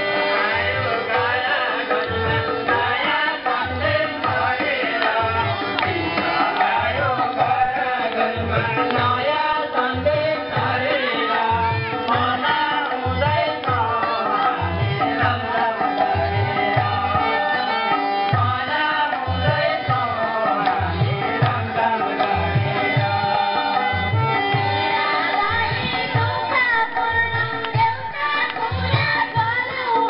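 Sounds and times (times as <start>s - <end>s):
rhythmic hand drum beat: 0.0s - 30.0s.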